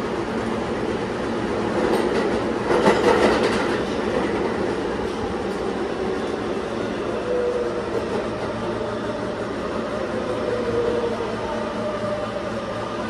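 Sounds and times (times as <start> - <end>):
subway car wheels rumbling: 0.0 - 13.0.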